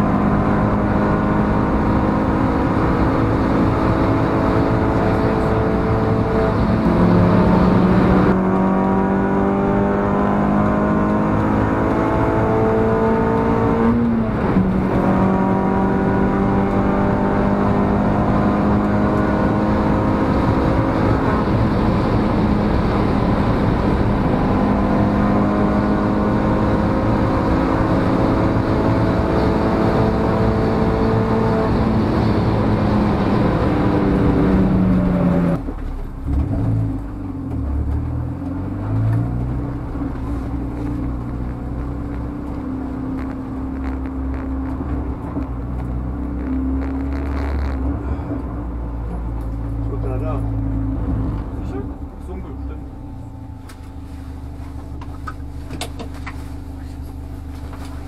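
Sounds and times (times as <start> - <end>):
turbocharged car engine: 0.0 - 58.0.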